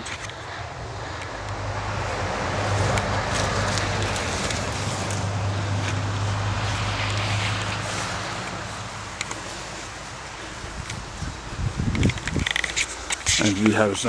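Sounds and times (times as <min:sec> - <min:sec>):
rushing noise of passing vehicle: 0:00.0 - 0:14.0
vehicle engine hum: 0:00.0 - 0:14.0.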